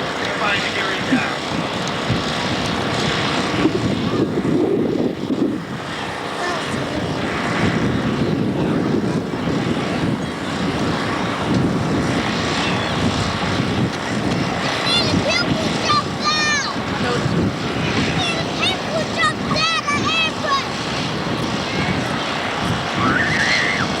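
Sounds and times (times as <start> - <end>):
airplane engines flying by: 0.0 - 24.0.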